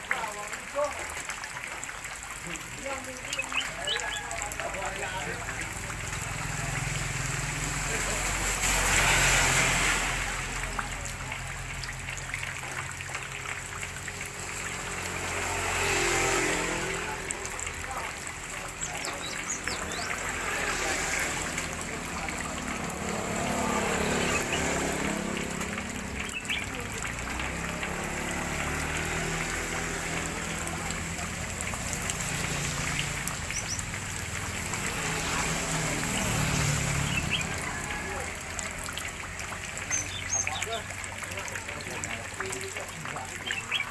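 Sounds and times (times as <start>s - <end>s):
water trickling and splashing: 0.0s - 43.9s.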